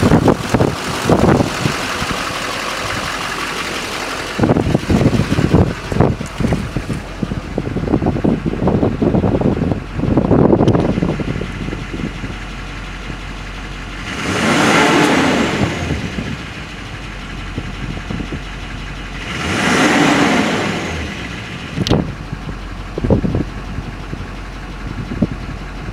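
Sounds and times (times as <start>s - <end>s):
diesel engine idling and revving: 0.0s - 25.9s.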